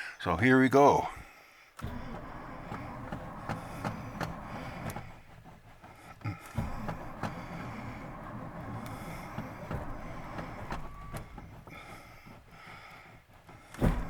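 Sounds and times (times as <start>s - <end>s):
engine starter cranking: 1.7s - 14.0s.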